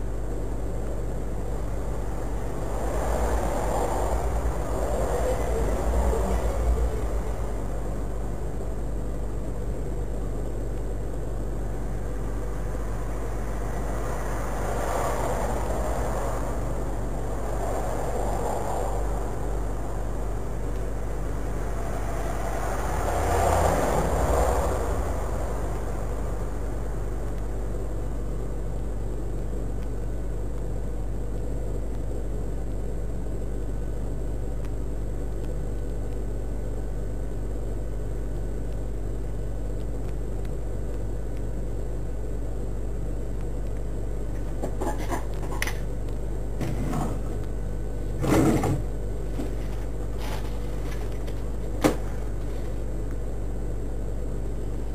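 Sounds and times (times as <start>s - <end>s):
low hum with hiss: 0.0s - 54.9s.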